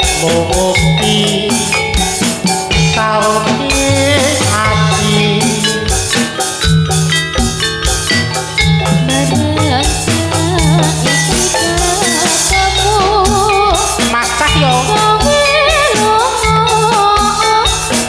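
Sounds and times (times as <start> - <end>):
person singing with vibrato: 0.0 - 6.6, 8.8 - 18.0
gamelan percussion and drums: 0.0 - 18.0.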